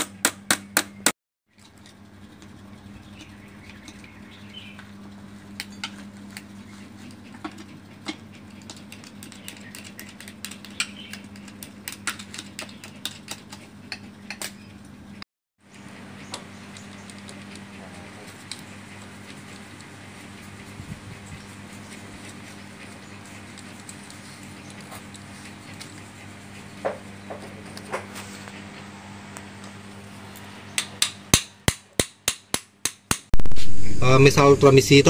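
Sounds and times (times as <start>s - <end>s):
steady low hum: 0.1s - 35.0s.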